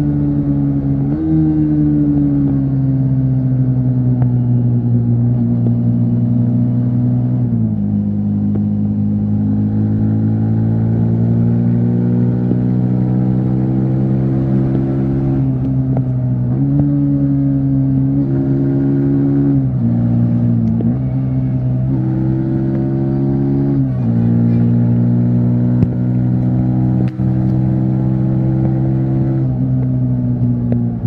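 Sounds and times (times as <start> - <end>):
motorcycle engine at speed: 0.0 - 31.0.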